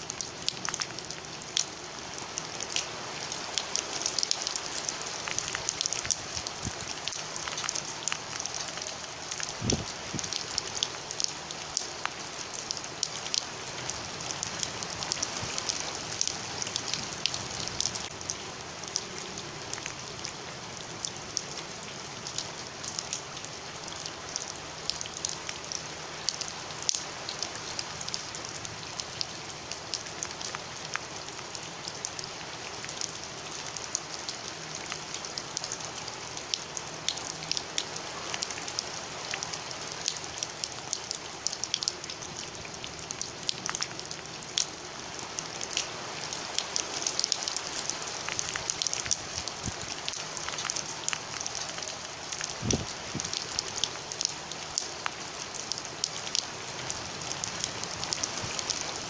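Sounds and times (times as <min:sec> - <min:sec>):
heavy rain on wet pavement: 0:00.0 - 0:59.0.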